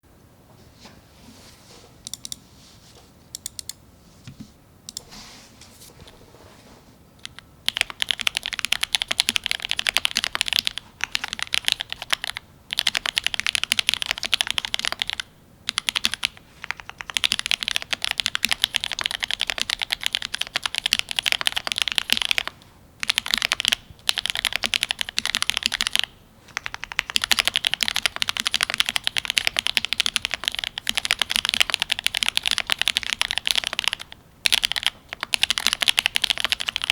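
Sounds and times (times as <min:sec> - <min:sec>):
typing on mechanical keyboard: 0:07.2 - 0:36.9.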